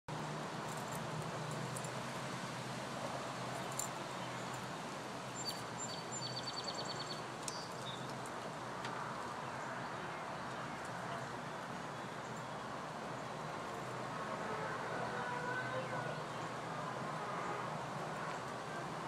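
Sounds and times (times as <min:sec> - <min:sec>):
outdoor background noise: 0:00.1 - 0:19.0.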